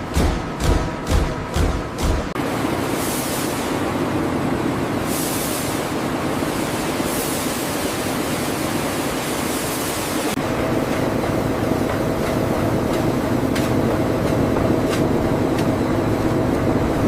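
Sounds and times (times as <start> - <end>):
factory machinery rumbling: 0.0 - 17.0.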